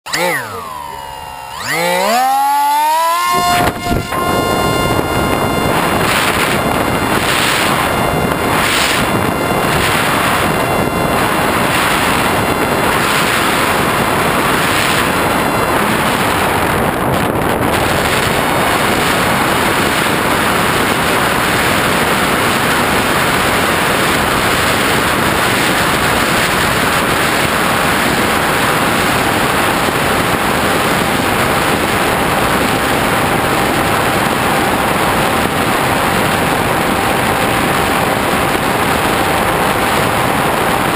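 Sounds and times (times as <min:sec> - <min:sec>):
motor and propeller tone: 0:00.0 - 0:40.9
rush of airflow over camera: 0:01.8 - 0:40.9.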